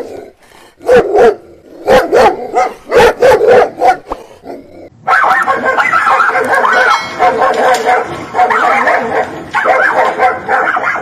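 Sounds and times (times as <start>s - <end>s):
dog barking: 0.8s - 11.0s.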